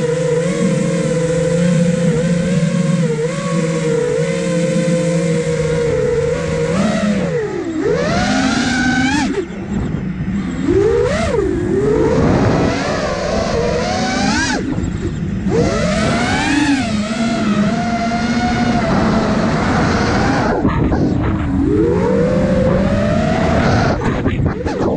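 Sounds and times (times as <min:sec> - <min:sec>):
drone motors whining: 0:00.0 - 0:24.9.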